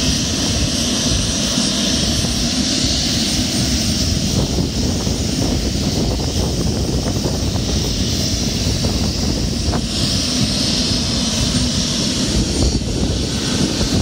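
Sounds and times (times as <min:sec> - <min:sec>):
turboprop engines running: 0:00.0 - 0:14.0.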